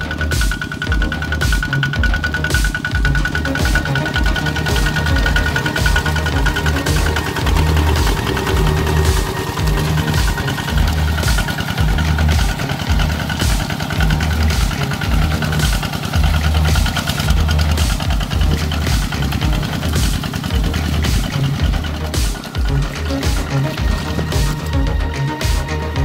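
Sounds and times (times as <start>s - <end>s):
diesel engine pulsing under load: 0.0s - 26.0s.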